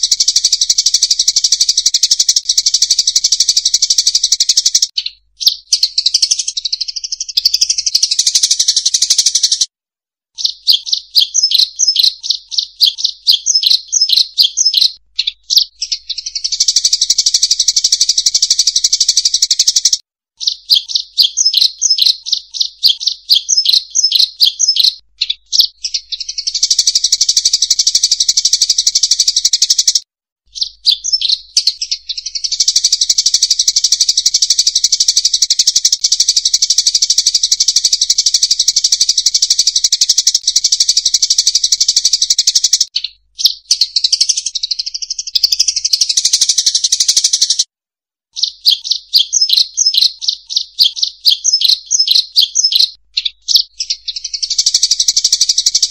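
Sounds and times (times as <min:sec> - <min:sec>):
finches chirping and twittering: 0:00.0 - 0:09.7, 0:10.4 - 0:47.6, 0:48.4 - 0:55.9.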